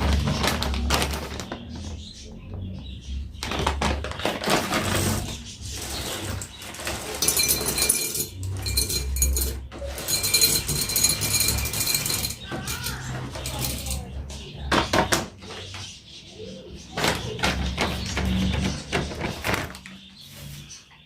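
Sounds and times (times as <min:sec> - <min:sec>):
rustling and knocking objects: 0:00.0 - 0:02.7, 0:03.4 - 0:16.0, 0:16.9 - 0:20.8.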